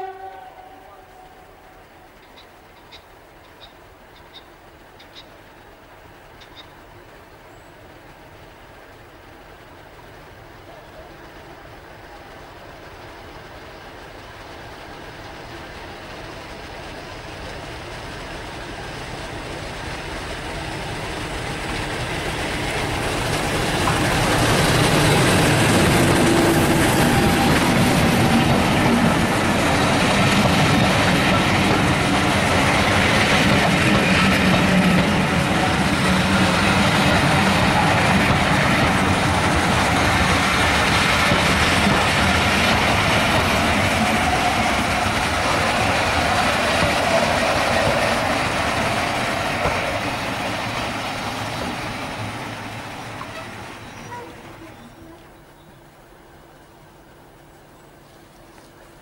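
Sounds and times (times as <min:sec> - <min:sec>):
diesel locomotive engine: 0:00.0 - 0:59.0
train wheels running on rails: 0:00.0 - 0:59.0.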